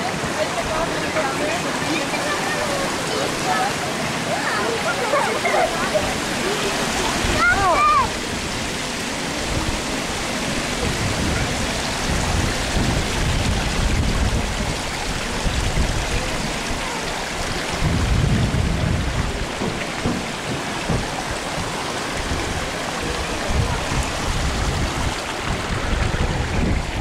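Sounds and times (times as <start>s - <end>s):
rushing hiss of air and water: 0.0s - 27.0s
wind buffeting microphone: 5.1s - 27.0s.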